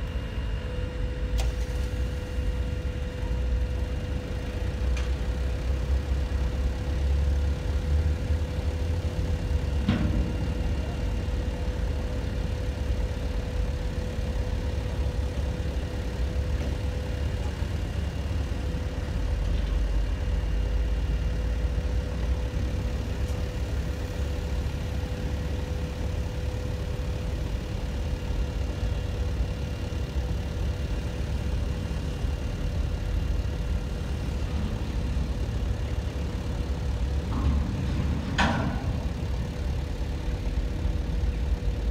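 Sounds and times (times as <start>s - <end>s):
diesel engine running: 0.0s - 41.9s
steady hum: 0.0s - 41.9s.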